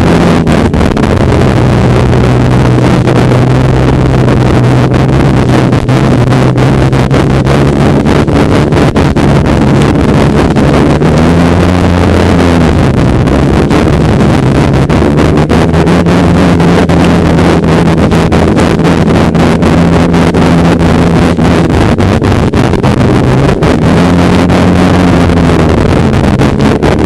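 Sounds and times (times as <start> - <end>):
snowmobile engine running: 0.0 - 27.0
wind noise on microphone: 0.0 - 27.0.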